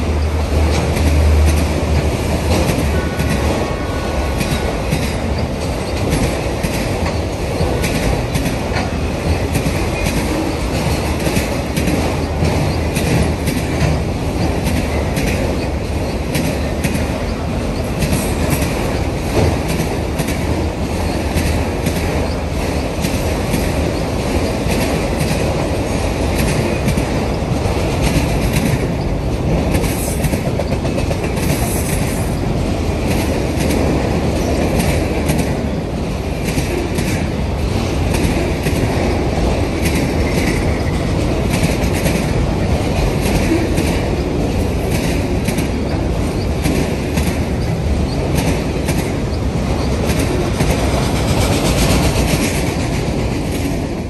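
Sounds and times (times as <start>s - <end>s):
clickety-clack over rail joints: 0.0s - 54.0s
steel wheels rumbling on track: 0.0s - 54.0s.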